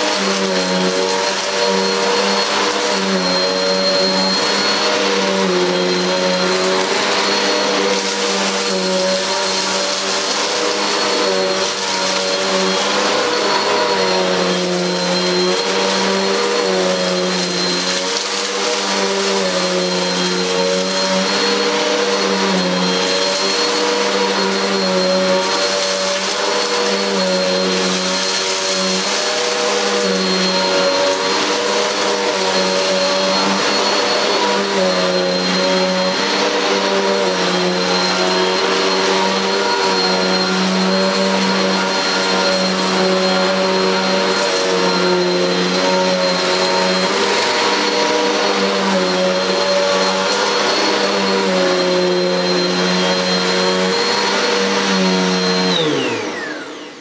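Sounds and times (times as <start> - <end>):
vacuum cleaner running on carpet: 0.0 - 57.0.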